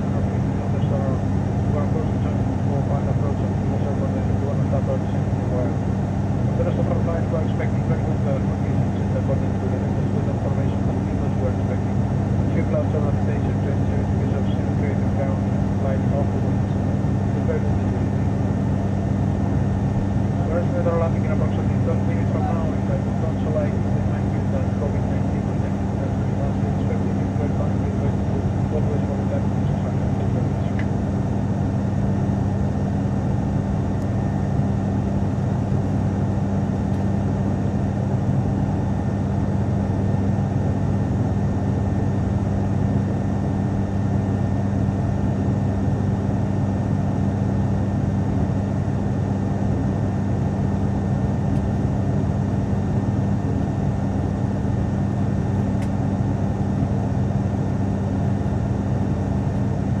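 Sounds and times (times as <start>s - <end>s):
turboprop cabin drone: 0.0s - 60.0s.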